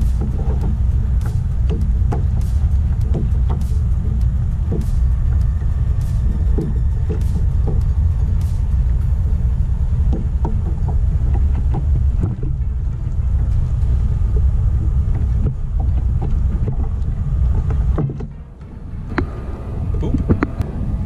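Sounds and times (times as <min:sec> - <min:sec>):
loud low rumble: 0:00.0 - 0:21.0.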